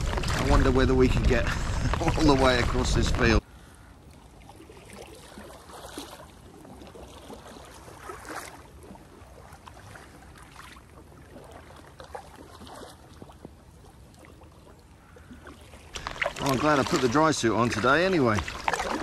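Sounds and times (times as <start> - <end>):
paddle splashing in water: 0.0 - 3.4, 4.1 - 19.0.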